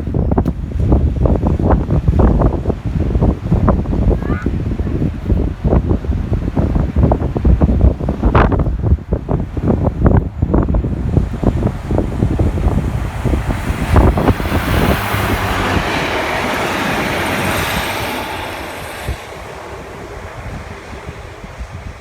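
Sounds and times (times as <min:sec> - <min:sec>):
train rushing past on rails: 0:00.0 - 0:22.0
wind buffeting microphone: 0:00.0 - 0:22.0.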